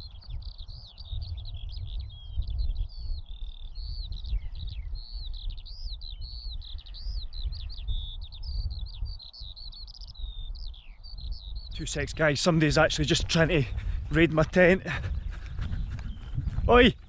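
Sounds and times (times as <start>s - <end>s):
skylark song: 0.0s - 17.0s.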